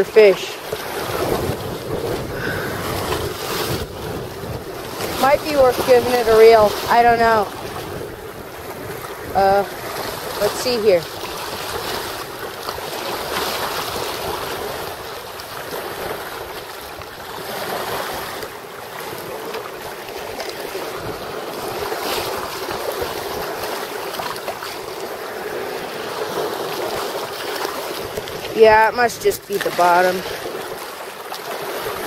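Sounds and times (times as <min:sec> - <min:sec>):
waves washing against rocky shore: 0:00.0 - 0:32.0
wind blowing across microphone: 0:00.0 - 0:32.0.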